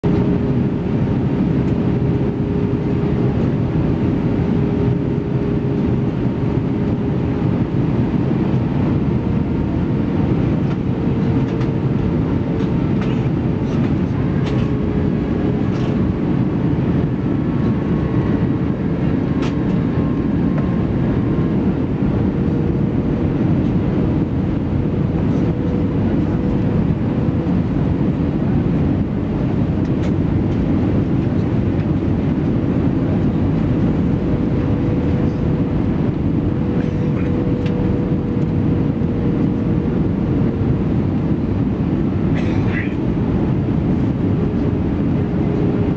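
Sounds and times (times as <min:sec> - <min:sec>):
airplane cabin roar: 0:00.0 - 0:45.9.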